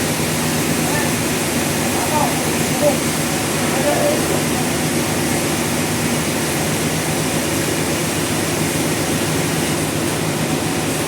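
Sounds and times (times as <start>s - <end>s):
sawmill machinery drone: 0.0s - 11.0s.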